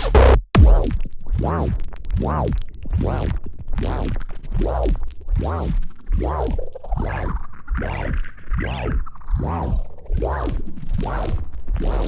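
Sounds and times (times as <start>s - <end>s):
deep bass: 0.0s - 12.0s.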